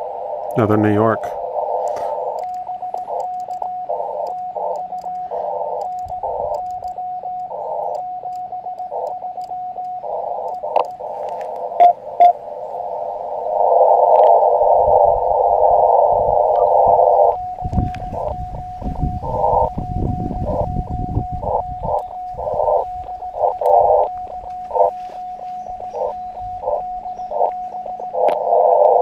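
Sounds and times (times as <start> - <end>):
morse code tone: 0.0 - 29.0
radio receiver hiss: 0.3 - 29.0.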